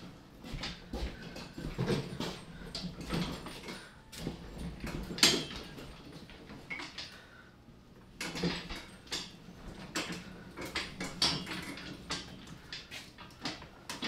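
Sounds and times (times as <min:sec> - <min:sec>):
garden cart rattling on wooden floor: 0:00.4 - 0:07.0, 0:08.2 - 0:14.0.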